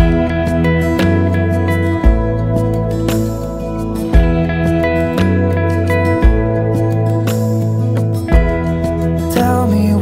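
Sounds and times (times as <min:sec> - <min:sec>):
gentle guitar instrumental music: 0:00.0 - 0:10.0.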